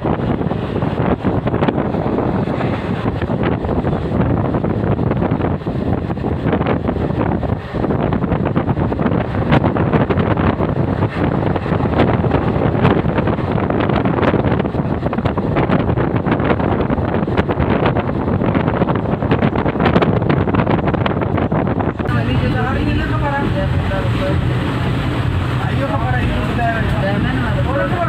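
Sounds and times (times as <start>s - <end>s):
steady rushing noise: 0.0s - 28.0s
train rattle: 0.0s - 28.0s
wind buffeting microphone: 0.0s - 28.0s.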